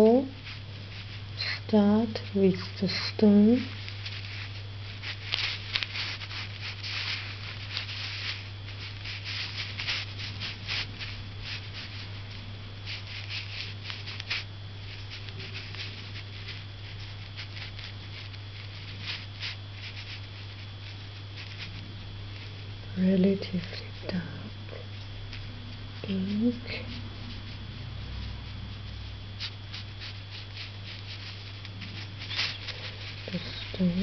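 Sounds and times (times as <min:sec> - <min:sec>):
steady low hum: 0:00.0 - 0:34.0
brush scratching across paper: 0:00.2 - 0:22.6, 0:26.0 - 0:34.0.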